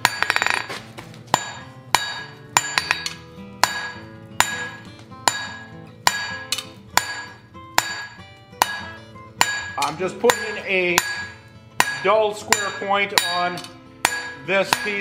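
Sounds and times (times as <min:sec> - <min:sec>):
hammer striking hot steel on anvil: 0:00.0 - 0:15.0.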